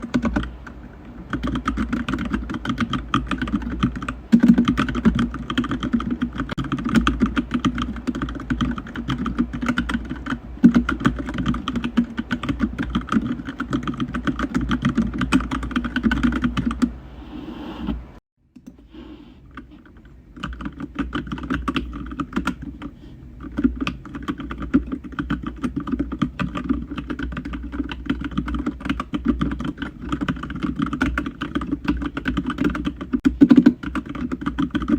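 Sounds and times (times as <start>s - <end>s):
typing on computer keyboard: 0.0s - 16.9s, 19.5s - 34.9s.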